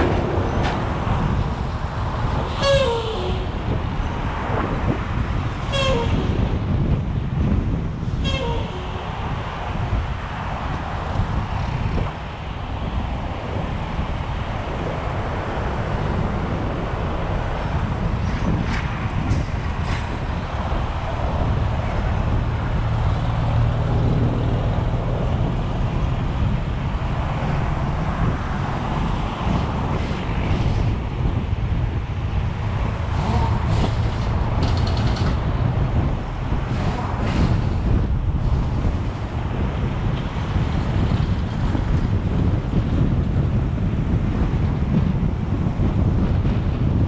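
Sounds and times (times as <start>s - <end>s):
heavy truck passing alongside: 0.0s - 47.0s
highway traffic and road noise: 0.0s - 47.0s
low engine rumble: 0.0s - 47.0s.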